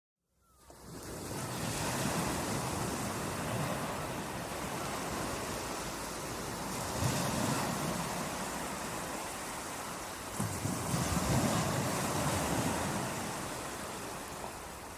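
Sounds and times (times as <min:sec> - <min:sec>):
sea waves washing on beach: 0:00.6 - 0:14.9.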